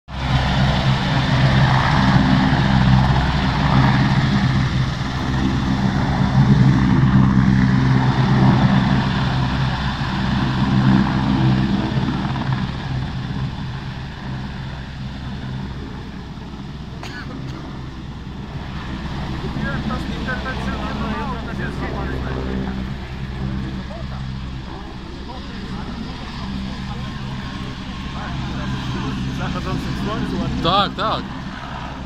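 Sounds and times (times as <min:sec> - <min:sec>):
helicopter rotor beating: 0:00.1 - 0:32.0.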